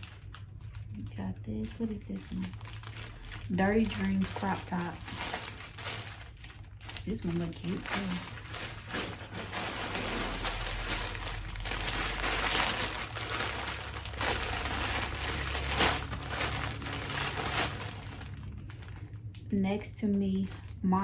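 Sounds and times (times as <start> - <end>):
packaging crinkling and rustling: 0.0 - 19.5.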